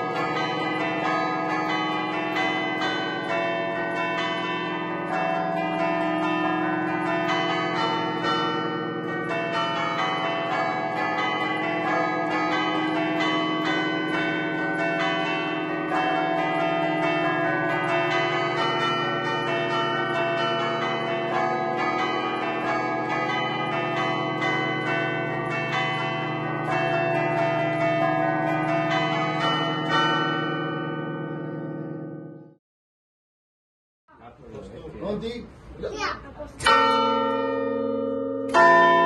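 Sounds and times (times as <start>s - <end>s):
bells ringing a lively tune: 0.0s - 32.6s, 36.6s - 39.0s.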